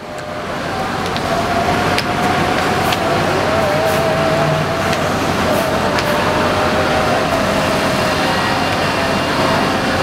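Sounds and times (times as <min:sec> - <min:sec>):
motorbikes: 0:00.0 - 0:10.0
road traffic: 0:00.0 - 0:10.0
train running over rail bridge: 0:00.0 - 0:10.0.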